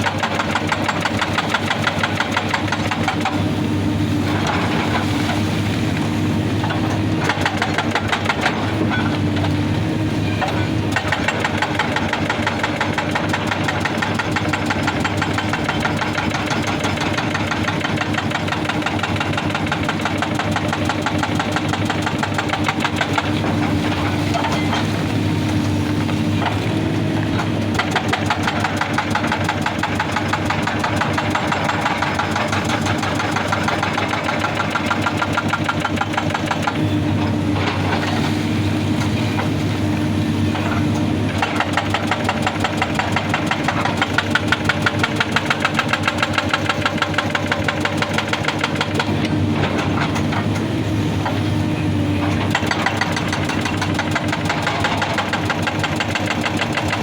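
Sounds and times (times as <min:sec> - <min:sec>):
diesel engine under load: 0:00.0 - 0:57.0
hydraulic breaker hammering rock: 0:00.0 - 0:57.0.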